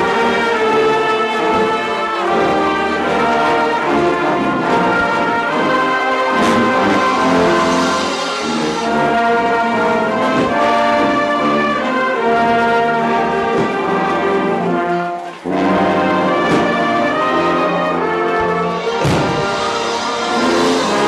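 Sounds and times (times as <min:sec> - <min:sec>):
marching band brass: 0:00.0 - 0:21.0.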